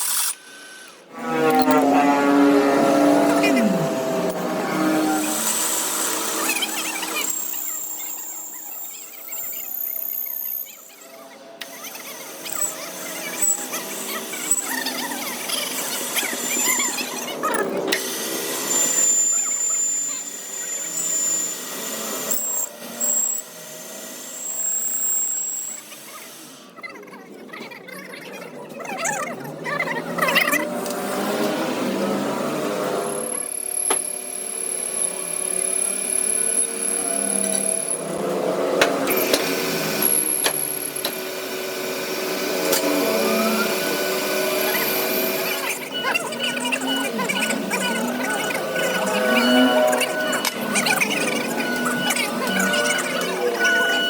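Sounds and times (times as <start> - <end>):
metalworking machinery running: 0.0 - 26.6, 30.4 - 54.0
power tool grinding: 0.0 - 26.8, 29.9 - 54.0.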